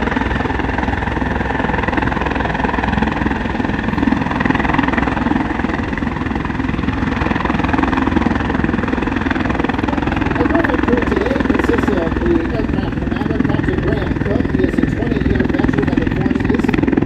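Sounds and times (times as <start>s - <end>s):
helicopter rotor beating: 0.0s - 17.0s
turbine engine whine: 0.0s - 17.0s.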